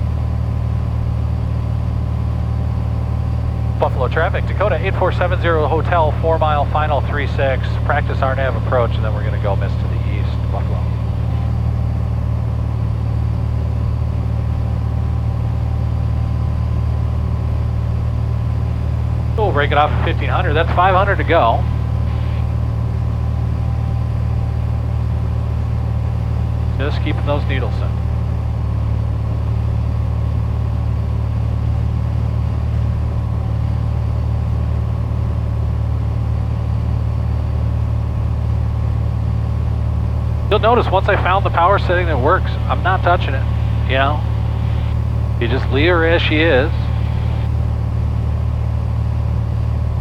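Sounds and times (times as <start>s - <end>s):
airplane engine and propeller drone: 0.0s - 50.0s.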